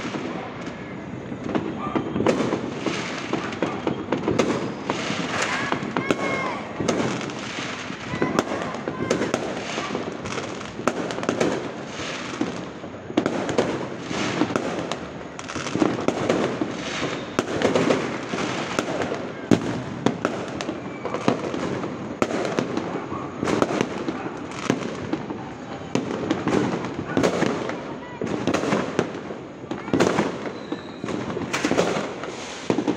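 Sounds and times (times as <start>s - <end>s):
fireworks crackling: 0.0s - 32.9s
fireworks sharp bangs: 0.0s - 32.9s.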